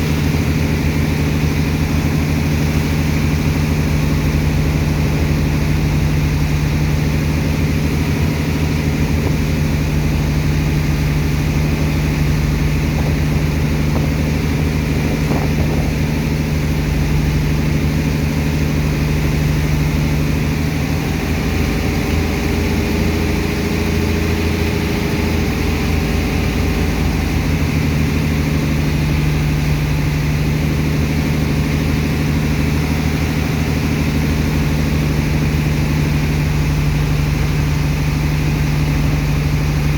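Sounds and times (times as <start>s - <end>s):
heavy engine droning: 0.0s - 39.9s.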